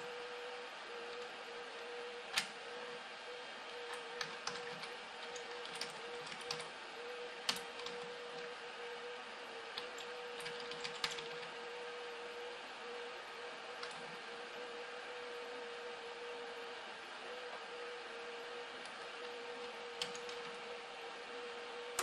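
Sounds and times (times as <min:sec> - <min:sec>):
faint hum and hiss: 0:00.0 - 0:22.0.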